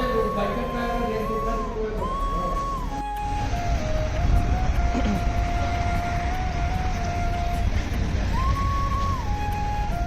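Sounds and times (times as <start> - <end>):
held melodic note: 0.0 - 10.0.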